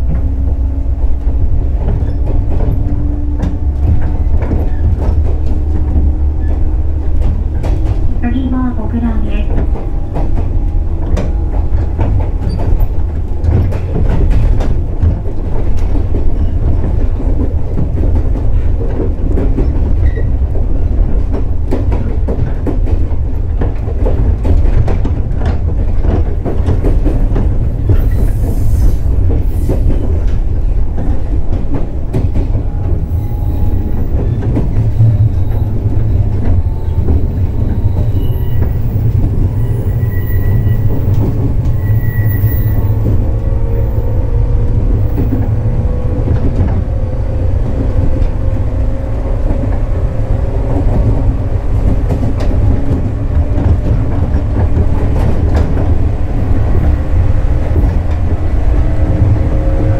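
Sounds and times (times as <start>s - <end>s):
wheels clicking over rail joints: 0.0s - 59.4s
train rumbling at speed: 0.0s - 59.9s.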